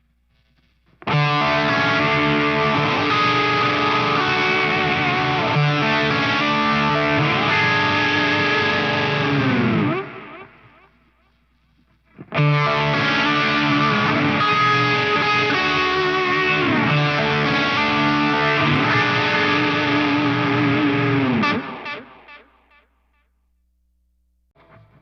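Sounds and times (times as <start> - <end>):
distorted electric guitar chords: 0.0 - 11.0, 12.1 - 23.0, 24.6 - 25.0.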